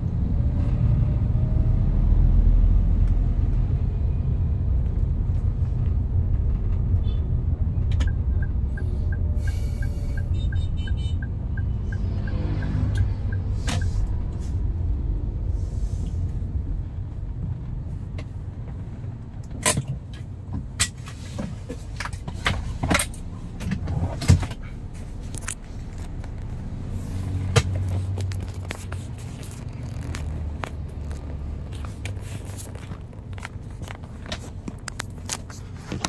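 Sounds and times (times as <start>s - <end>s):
vehicle low rumble: 0.0s - 36.0s.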